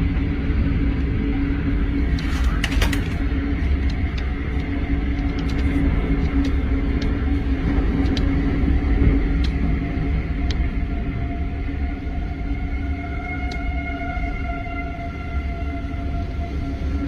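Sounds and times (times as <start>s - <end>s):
constant hum: 0.0s - 17.0s
tornado roaring: 0.0s - 17.0s.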